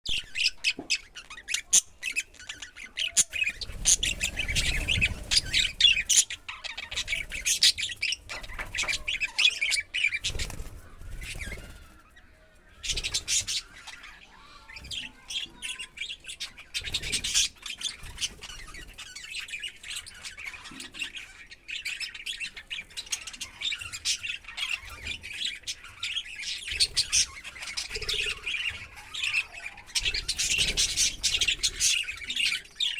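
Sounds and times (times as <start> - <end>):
birds chirping and squawking: 0.1 - 32.9.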